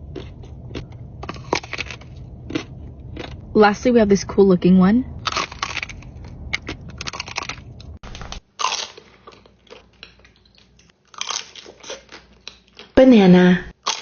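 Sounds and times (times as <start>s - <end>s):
person biting and chewing: 0.0s - 3.4s, 5.2s - 12.9s, 13.8s - 14.0s.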